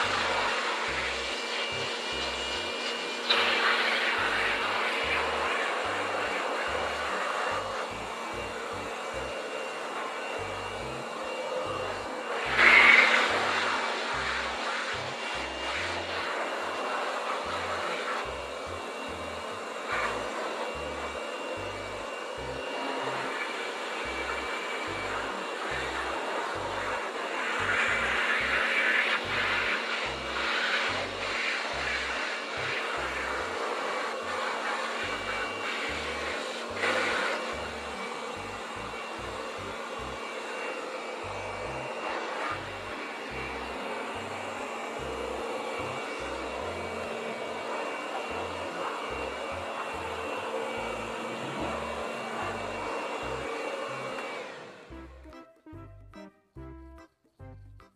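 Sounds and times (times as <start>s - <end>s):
electric blower running: 0.0s - 56.1s.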